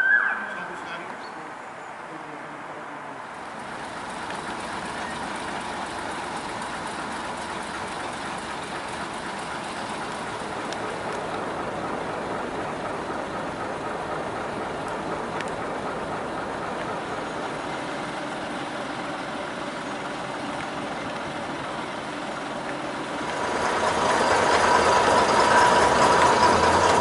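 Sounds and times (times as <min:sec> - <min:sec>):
diesel train engines idling: 0:00.0 - 0:27.0.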